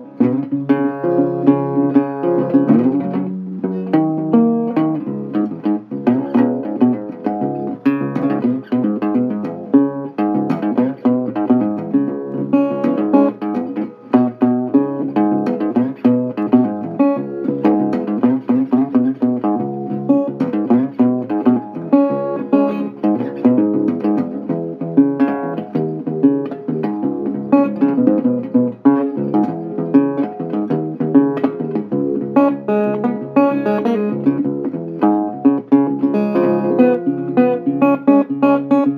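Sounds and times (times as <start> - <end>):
guitar plucking and strumming: 0.0 - 38.9.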